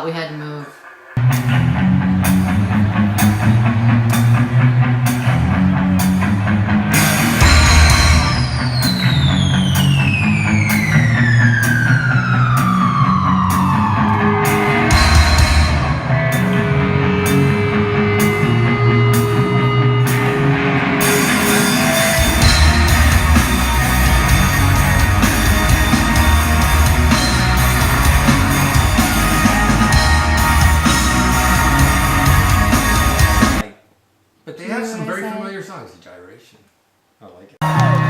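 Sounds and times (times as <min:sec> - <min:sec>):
drums: 0:00.8 - 0:33.8
bass guitar: 0:01.2 - 0:33.7, 0:37.6 - 0:38.0
live rock band: 0:01.2 - 0:33.7.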